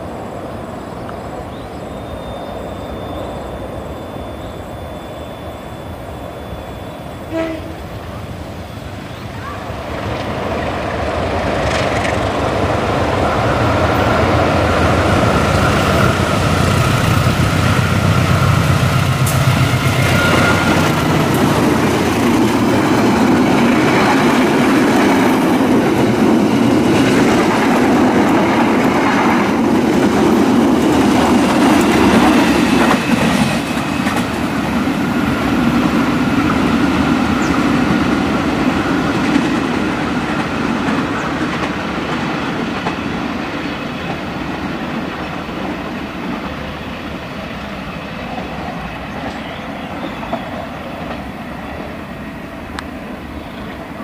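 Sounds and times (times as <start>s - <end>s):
train coaches rolling on rails: 0.0s - 54.0s.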